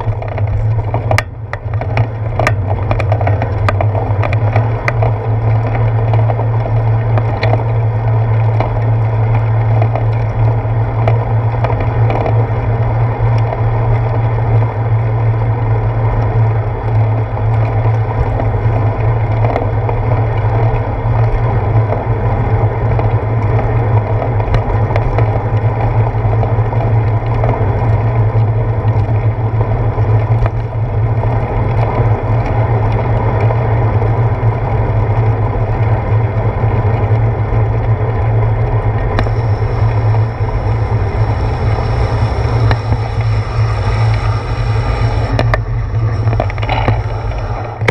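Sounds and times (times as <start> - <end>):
low hum: 0.0 - 47.9
wind and bicycle road noise: 0.0 - 47.9.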